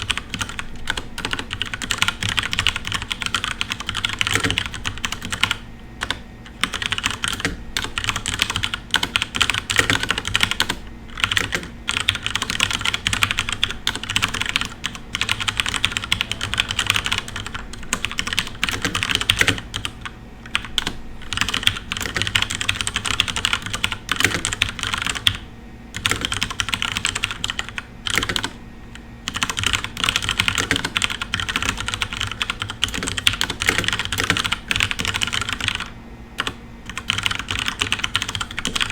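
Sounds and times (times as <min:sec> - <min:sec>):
fast typing on mechanical keyboard: 0:00.0 - 0:28.6, 0:29.3 - 0:38.9.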